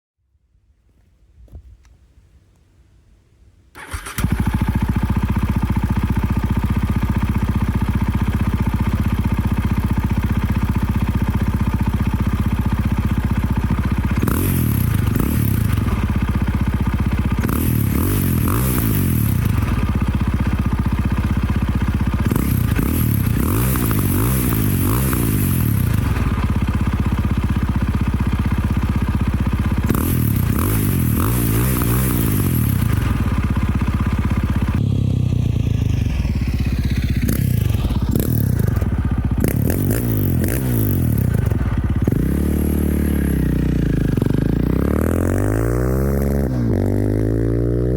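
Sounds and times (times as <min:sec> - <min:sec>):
motorcycle engine idling and revving: 0:03.8 - 0:47.9.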